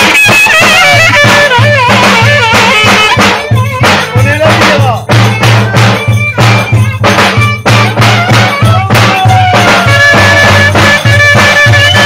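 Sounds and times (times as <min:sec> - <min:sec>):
clarinet dance tune: 0:00.0 - 0:12.0
low drum beat: 0:00.0 - 0:12.0.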